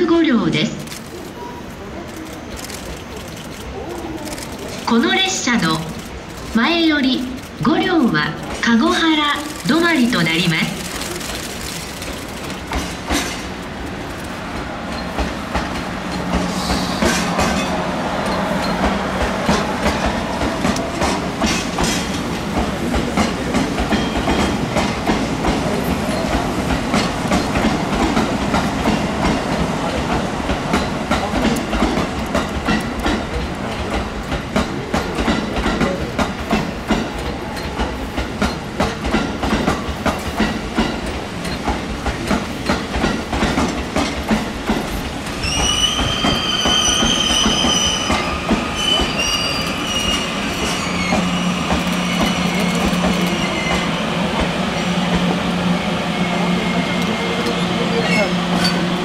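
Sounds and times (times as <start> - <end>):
train wheels clacking over rail joints: 2.1 - 55.4.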